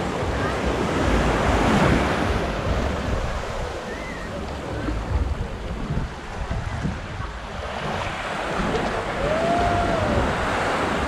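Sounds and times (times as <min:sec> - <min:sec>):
small waves breaking on sand: 0:00.0 - 0:11.0
wind buffeting microphone: 0:00.0 - 0:11.0.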